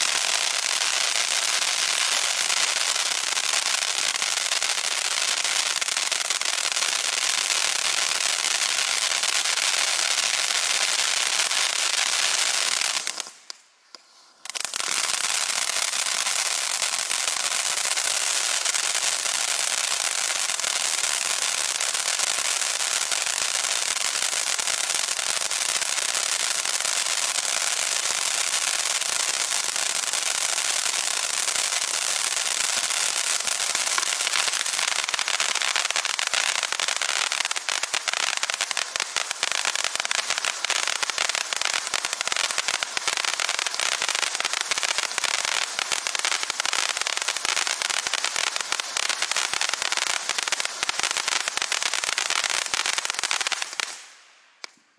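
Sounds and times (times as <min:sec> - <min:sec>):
fireworks fountain hissing crackle: 0:00.0 - 0:54.9.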